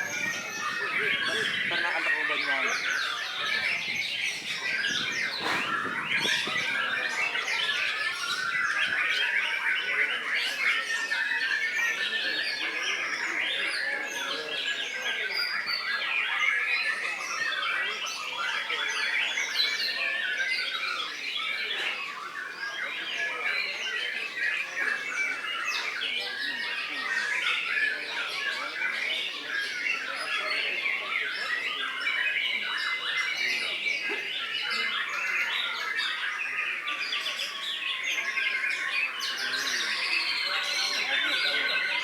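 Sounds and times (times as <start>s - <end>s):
songbirds chorus: 0.0s - 42.0s.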